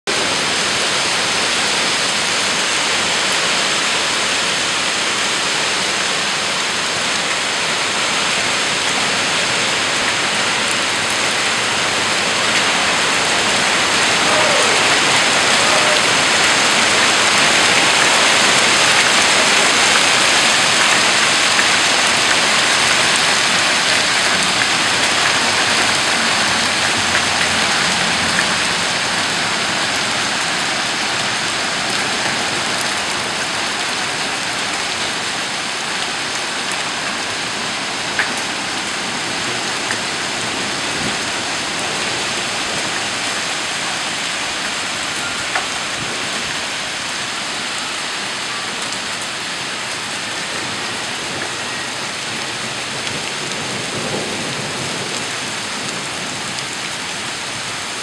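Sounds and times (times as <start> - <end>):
heavy rain and hail: 0.1 - 58.0.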